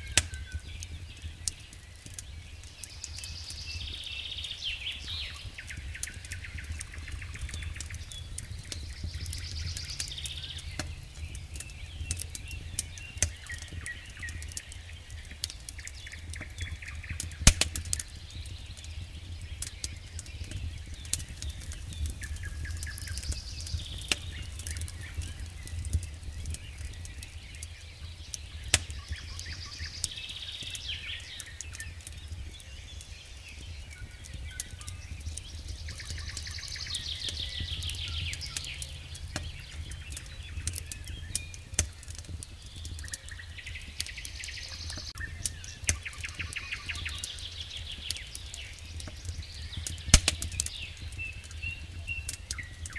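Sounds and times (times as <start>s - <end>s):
birds chirping: 0.0s - 52.9s
campfire crackling and popping: 0.0s - 52.9s.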